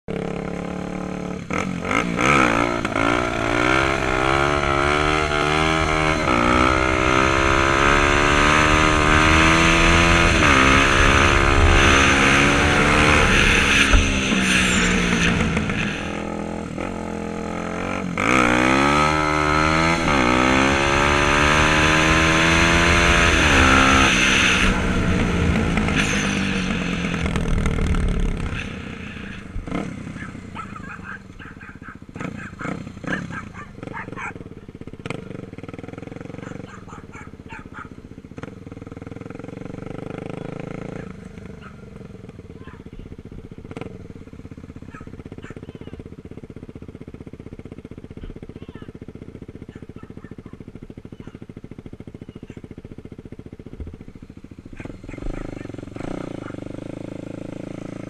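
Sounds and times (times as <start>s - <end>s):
dirt bike engine accelerating: 0.1s - 58.0s.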